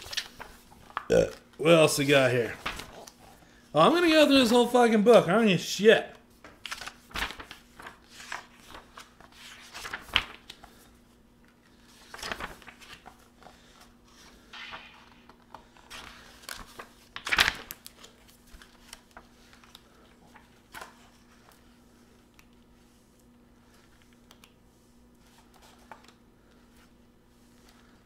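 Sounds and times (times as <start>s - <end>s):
book pages turning: 0.0s - 3.4s, 6.4s - 28.0s.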